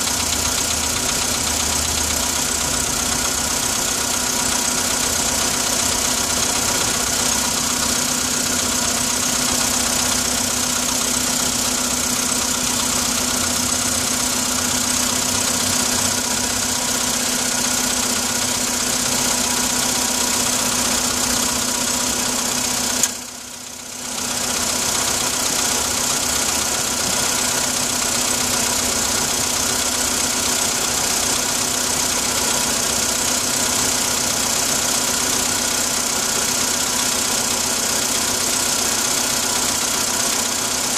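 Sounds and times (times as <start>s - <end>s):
car engine idling with knocking: 0.0s - 40.9s.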